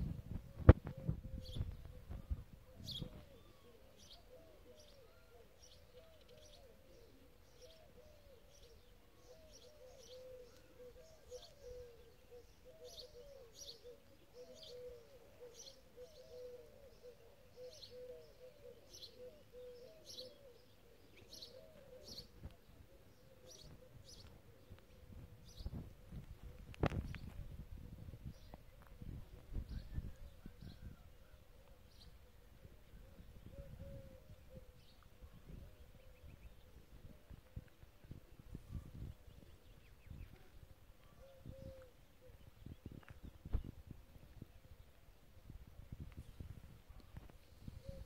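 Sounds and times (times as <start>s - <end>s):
low bird calls: 0.1s - 45.0s, 45.8s - 48.0s.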